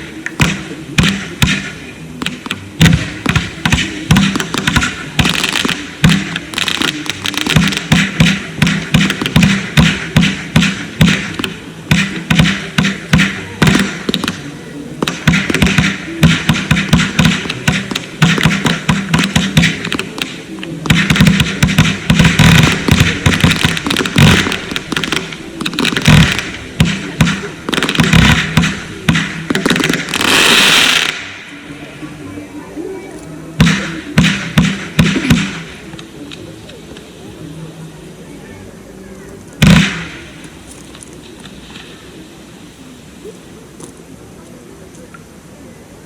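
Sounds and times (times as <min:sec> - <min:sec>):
fireworks bangs and crackles: 0:00.0 - 0:32.4, 0:33.2 - 0:37.2, 0:39.5 - 0:42.2.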